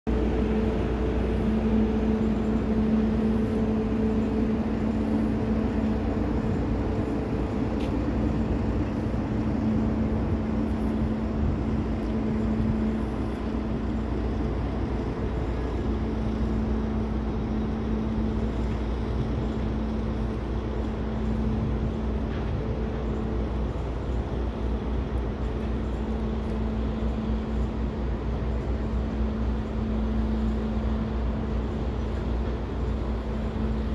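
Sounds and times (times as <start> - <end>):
diesel train engine droning: 0.1 - 33.9
low rumble: 0.1 - 33.9.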